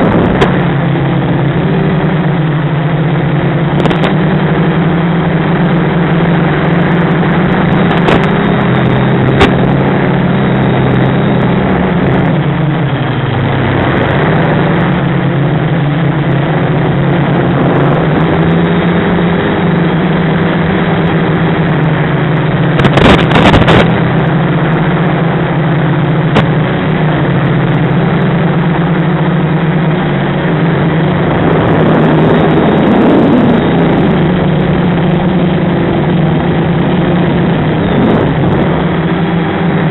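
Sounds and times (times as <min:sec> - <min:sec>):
drone motors and propellers buzzing: 0:00.0 - 0:39.9.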